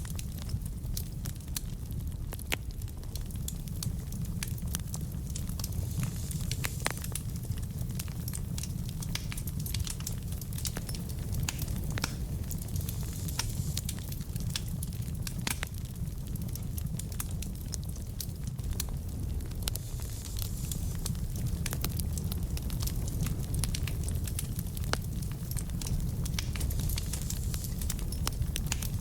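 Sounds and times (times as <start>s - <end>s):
flames rumbling: 0.0s - 29.0s
logs crackling and popping: 0.0s - 29.0s.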